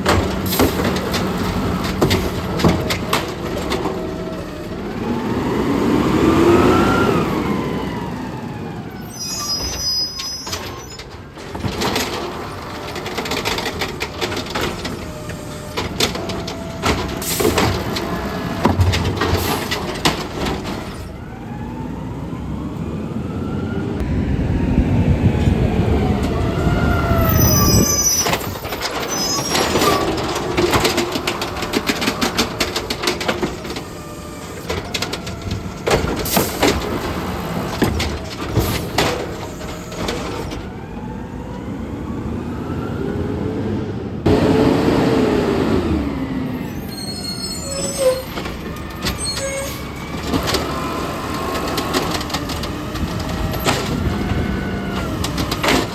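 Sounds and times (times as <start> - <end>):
garbage truck clattering and banging: 0.0 - 22.1, 24.9 - 42.1, 44.2 - 55.9
engine and hydraulics whining: 0.0 - 55.9.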